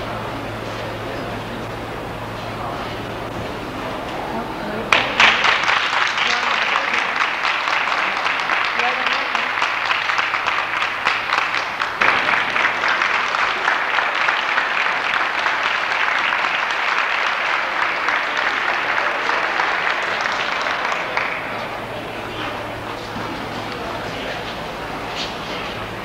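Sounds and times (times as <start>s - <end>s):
crowd applauding: 0.0s - 26.0s.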